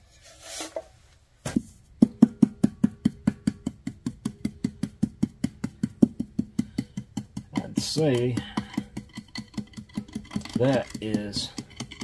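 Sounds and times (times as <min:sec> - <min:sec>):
tool tamping with ringing knocks: 0:02.0 - 0:12.0.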